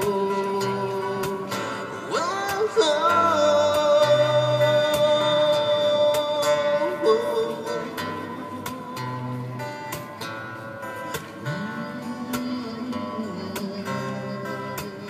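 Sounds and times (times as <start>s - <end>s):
guitar accompaniment: 0.0s - 15.0s.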